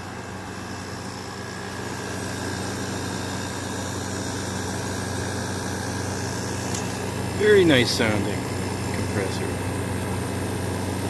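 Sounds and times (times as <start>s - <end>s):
air conditioner compressor humming: 0.0s - 11.0s
air conditioner fan rushing: 0.0s - 11.0s.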